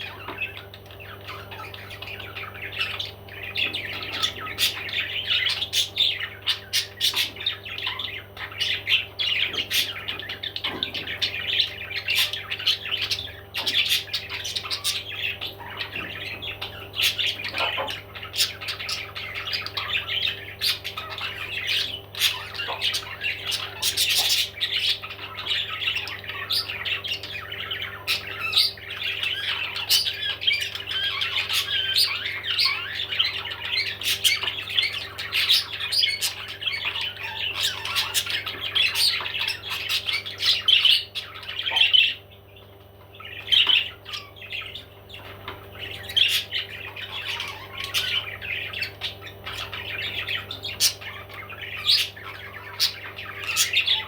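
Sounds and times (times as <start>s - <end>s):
parrots squawking and chattering: 0.0s - 54.0s.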